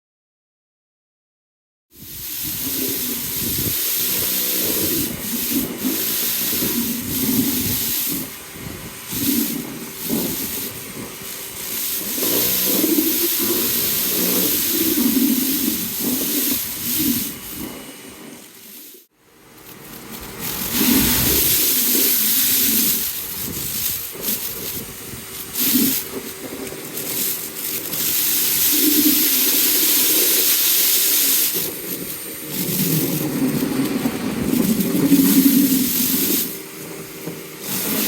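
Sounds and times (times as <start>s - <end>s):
pressure washer water jet hissing: 2.0s - 38.0s
pump motor hum: 2.0s - 38.0s.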